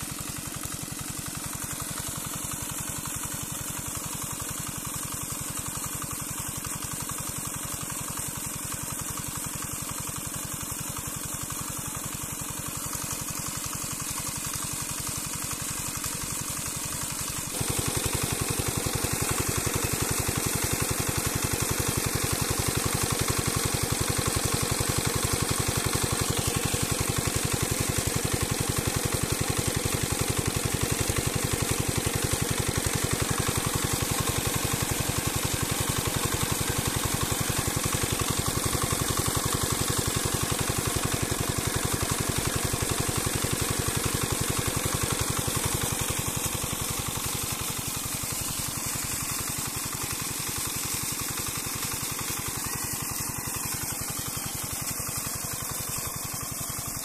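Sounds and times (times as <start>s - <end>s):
water gushing from a pipe: 0.0s - 57.0s.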